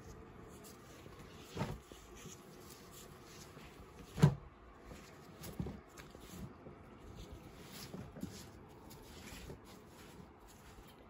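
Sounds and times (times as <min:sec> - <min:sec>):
soft bumps of jerseys handled: 0:00.5 - 0:11.0.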